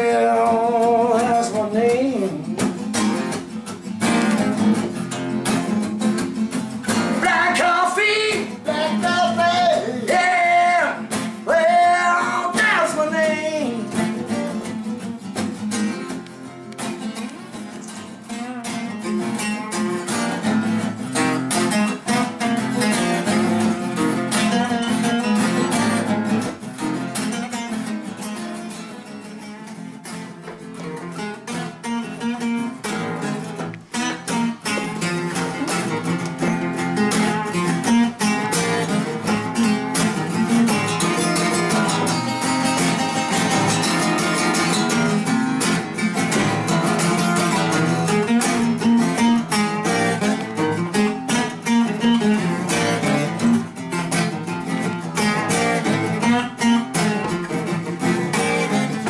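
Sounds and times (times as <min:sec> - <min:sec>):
acoustic guitars strumming: 0:00.0 - 0:59.0
melodic guitar line: 0:00.0 - 0:59.0.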